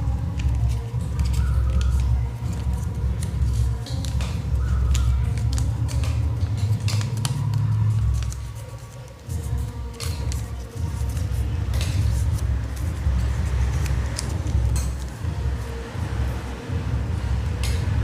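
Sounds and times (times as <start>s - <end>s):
paper being folded: 0.2s - 15.8s.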